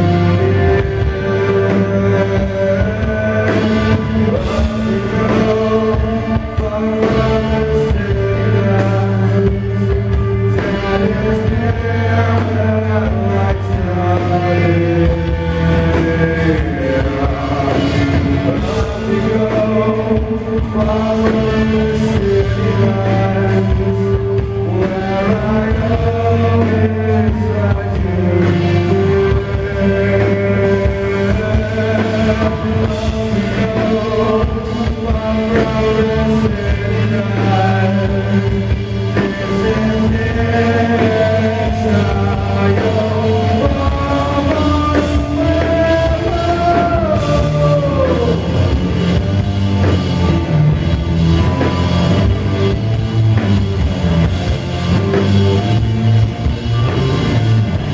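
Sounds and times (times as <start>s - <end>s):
heavy rock band playing: 0.0s - 57.9s
person singing: 0.0s - 57.9s.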